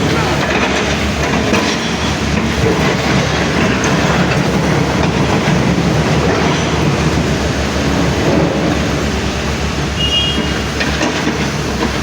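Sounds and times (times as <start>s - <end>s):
loud mechanical rattle: 0.0s - 9.8s
heavy diesel engine running: 0.0s - 12.0s.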